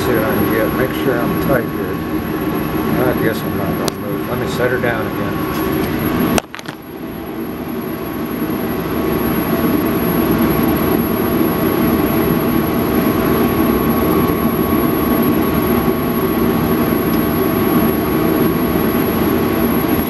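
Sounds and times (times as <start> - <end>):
metal lathe humming and whining: 0.0 - 20.0.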